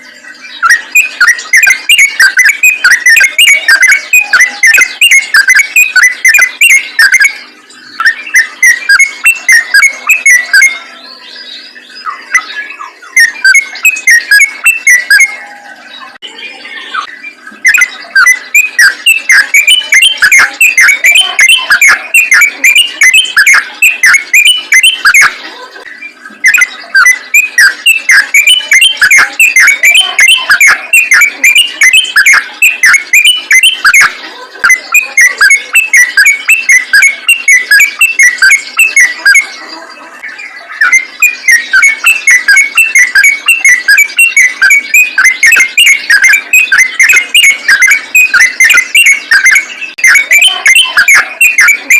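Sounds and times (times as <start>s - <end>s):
bird singing fast chirps: 0.0s - 51.9s.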